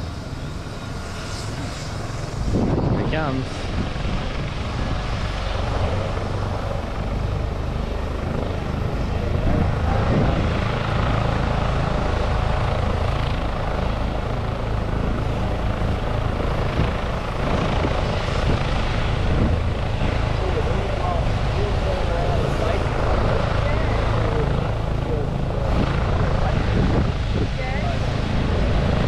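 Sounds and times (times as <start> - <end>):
helicopter rotor and engine: 0.0 - 29.0.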